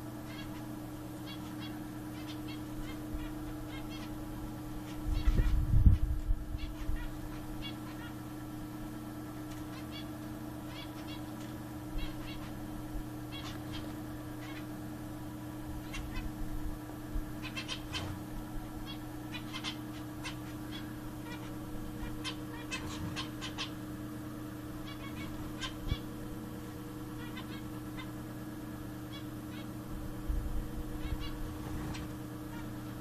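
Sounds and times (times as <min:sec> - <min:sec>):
steady low hum: 0:00.0 - 0:33.0
finches calling: 0:00.2 - 0:08.3, 0:09.6 - 0:33.0.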